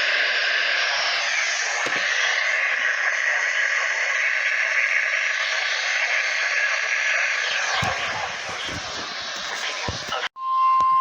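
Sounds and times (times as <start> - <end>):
radio static hiss: 0.0 - 10.3.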